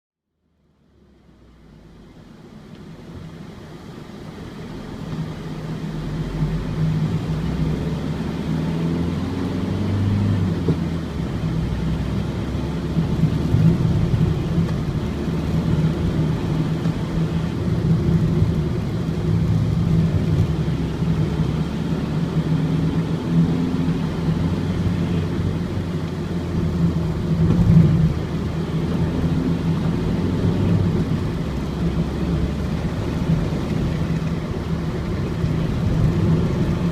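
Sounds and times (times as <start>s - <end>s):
diesel engine drone while driving: 0.2s - 36.9s
road noise: 0.2s - 36.9s.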